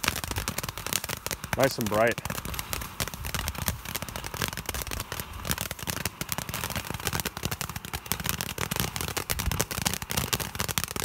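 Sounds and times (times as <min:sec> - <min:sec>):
firework crackling sparks: 0:00.0 - 0:11.0.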